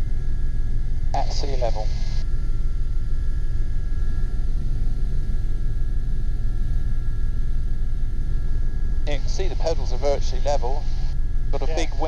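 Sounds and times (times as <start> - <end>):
faint high whine: 0.0 - 12.0
helicopter rotor and engine rumble: 0.0 - 12.0.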